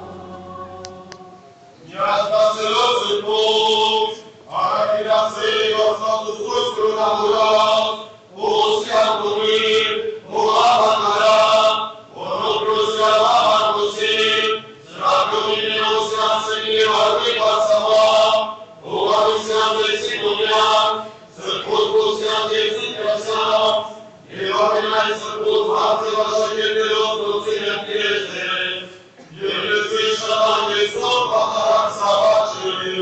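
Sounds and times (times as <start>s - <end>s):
liturgical chanting: 0.0s - 33.0s.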